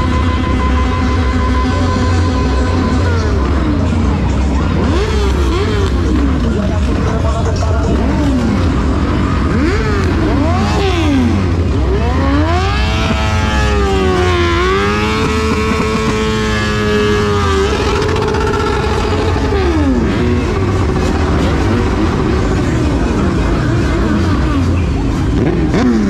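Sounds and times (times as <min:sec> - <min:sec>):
low engine rumble: 0:00.0 - 0:26.0
vehicle engines revving: 0:00.0 - 0:26.0.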